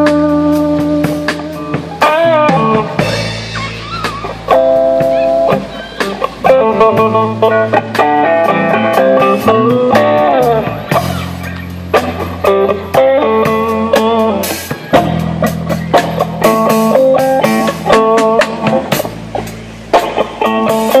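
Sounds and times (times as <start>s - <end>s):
drum kit hits: 0.0s - 21.0s
electric guitar choppy lines: 0.0s - 21.0s.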